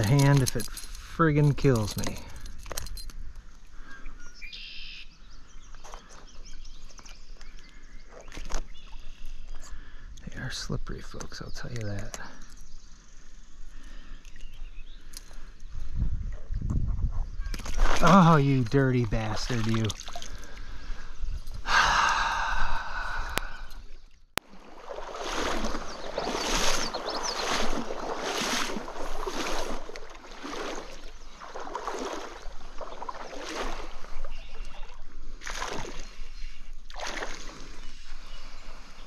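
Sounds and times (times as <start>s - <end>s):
water sloshing rhythmically: 0.0s - 39.0s.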